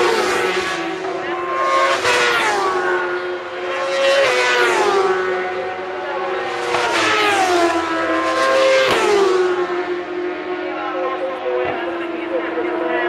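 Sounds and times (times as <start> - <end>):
racing motorcycles passing by: 0.0 - 13.0.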